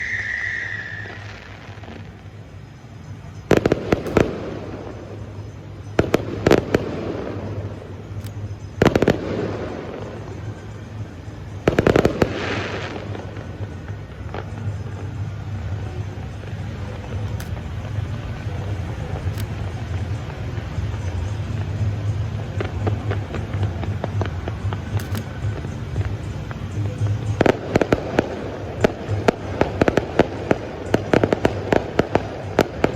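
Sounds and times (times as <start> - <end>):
fireworks bursting: 0.0 - 32.9
steady low hum: 0.0 - 32.9.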